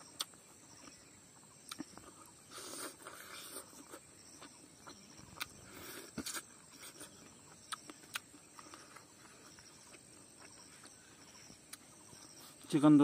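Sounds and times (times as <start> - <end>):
crickets trilling: 0.0 - 13.0
person eating and chewing: 0.2 - 12.5.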